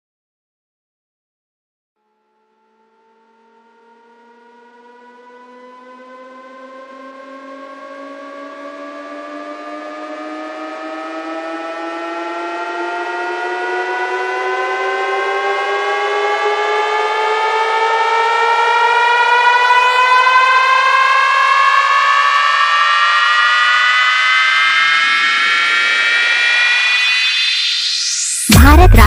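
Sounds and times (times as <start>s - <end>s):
rising siren-like synth tone: 2.1s - 29.0s.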